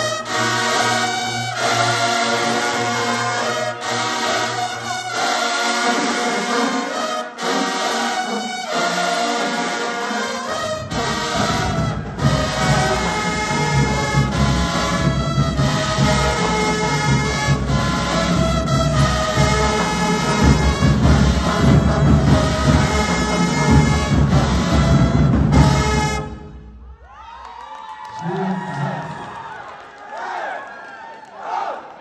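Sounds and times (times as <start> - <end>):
sustained brass chords: 0.0 - 26.9
marching band playing: 0.0 - 27.0.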